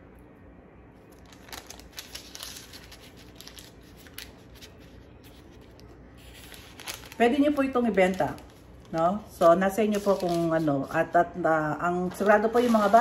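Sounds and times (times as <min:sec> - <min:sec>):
paper rustling and crinkling: 0:01.1 - 0:11.0, 0:12.0 - 0:13.0.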